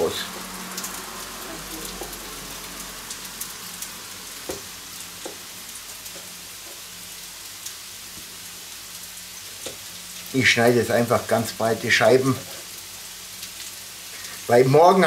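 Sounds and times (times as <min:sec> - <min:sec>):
potatoes sizzling in a pan: 0:00.0 - 0:15.0.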